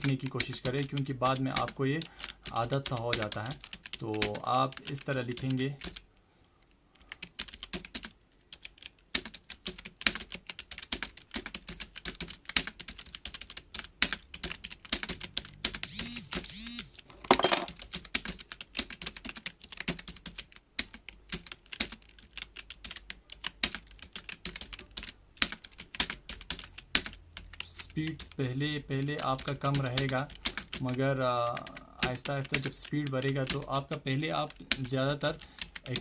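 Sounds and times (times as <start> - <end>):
computer keyboard typing: 0.0 - 6.0, 6.6 - 36.0.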